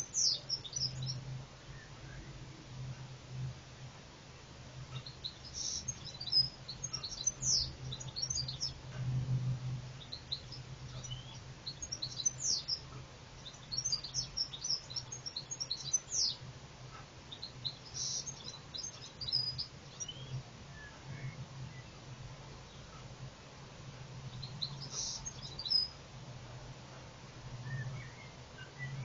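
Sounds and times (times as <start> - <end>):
small songbirds twittering: 0.0 - 29.0
steady low hum: 0.0 - 29.0.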